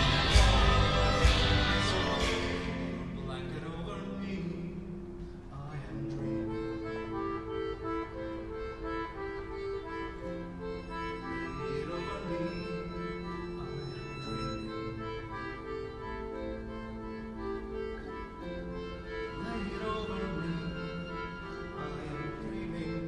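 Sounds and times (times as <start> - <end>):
instrumental folk music: 0.0 - 23.0.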